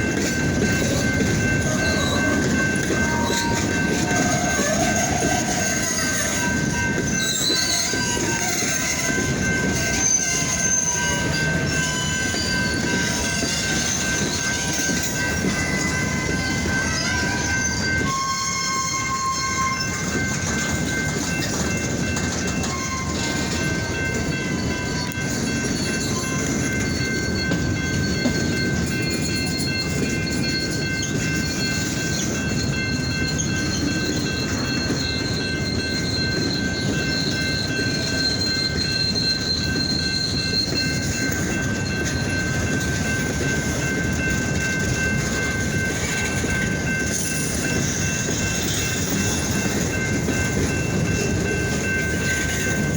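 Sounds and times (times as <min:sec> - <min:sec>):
freight train rumbling past: 0:00.0 - 0:52.9
high-pitched rail tones: 0:00.0 - 0:52.9.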